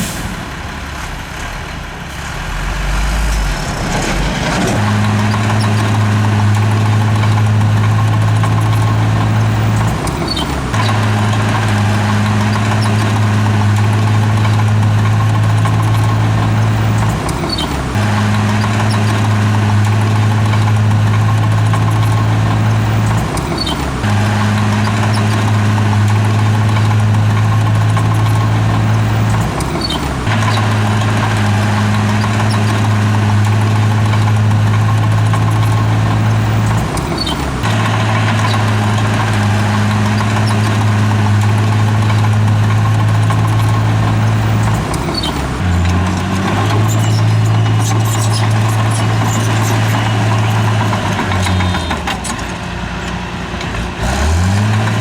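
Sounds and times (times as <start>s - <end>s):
heavy diesel engine working: 0.0s - 55.0s.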